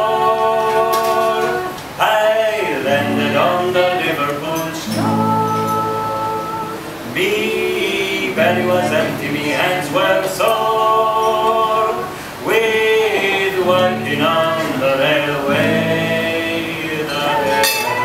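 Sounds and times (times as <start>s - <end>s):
man and woman singing in harmony: 0.0s - 18.0s
strummed acoustic guitar: 0.0s - 18.0s.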